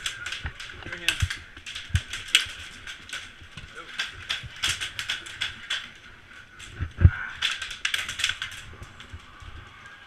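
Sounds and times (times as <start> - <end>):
airsoft guns clicking: 0.0 - 9.5.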